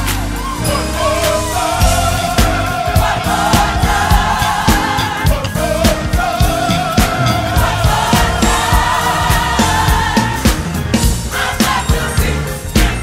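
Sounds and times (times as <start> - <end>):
gospel choir singing: 0.0 - 13.0
organ: 0.0 - 13.0
steady drum beat: 0.0 - 13.0.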